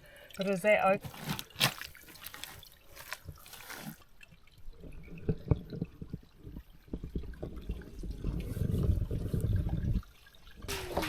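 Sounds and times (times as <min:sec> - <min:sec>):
water running and dripping: 0:00.0 - 0:11.0.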